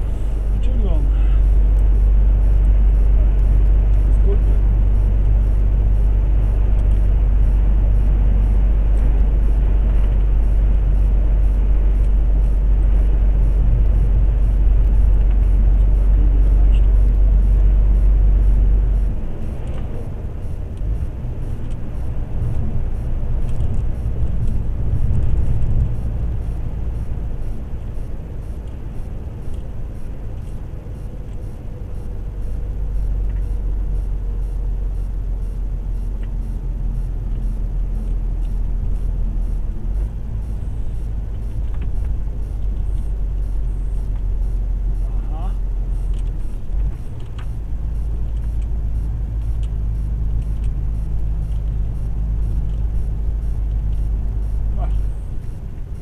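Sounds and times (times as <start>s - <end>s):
truck engine and tyre rumble: 0.0s - 56.0s.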